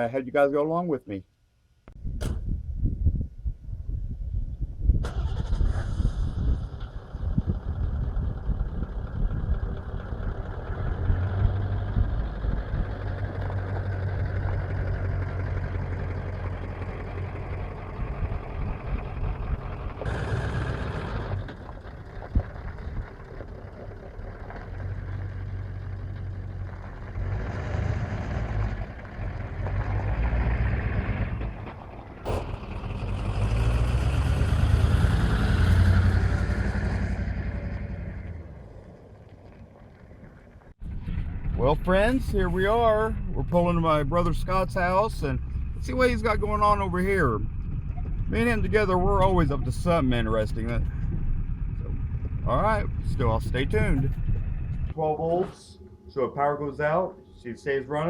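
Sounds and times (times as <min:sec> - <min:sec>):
vehicle engine and road rumble: 0:01.8 - 0:56.1.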